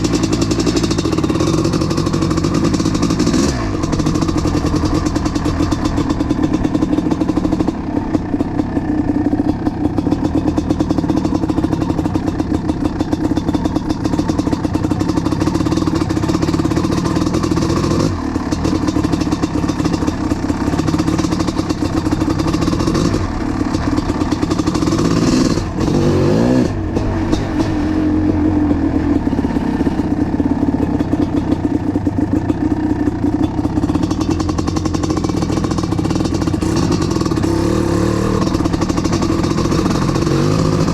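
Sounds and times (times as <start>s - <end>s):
two-stroke motorcycle engine running: 0.0s - 40.9s.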